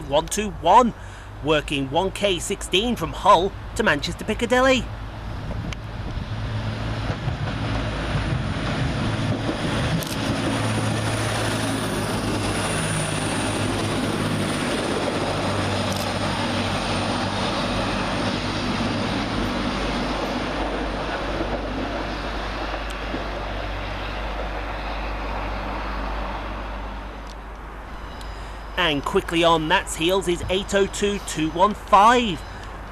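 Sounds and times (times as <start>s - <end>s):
diesel train engines running: 0.0s - 32.9s
wheel and rail noise: 4.9s - 31.7s.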